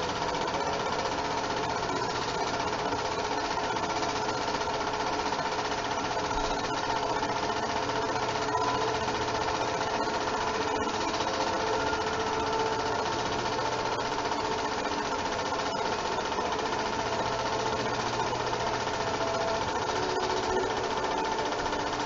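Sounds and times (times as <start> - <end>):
film projector clattering: 0.0 - 22.0
projector hum: 0.0 - 22.0.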